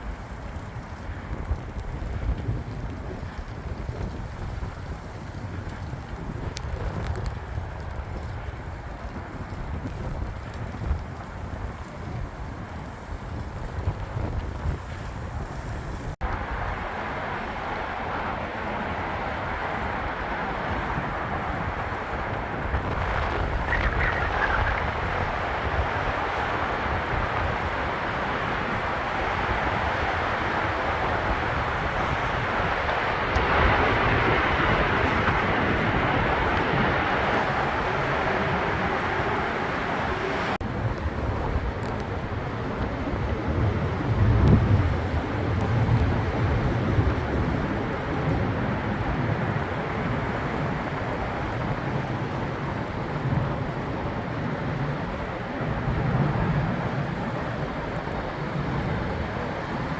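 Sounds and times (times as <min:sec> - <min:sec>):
road and traffic noise: 0:00.0 - 0:59.9
wind on microphone: 0:00.0 - 0:59.9.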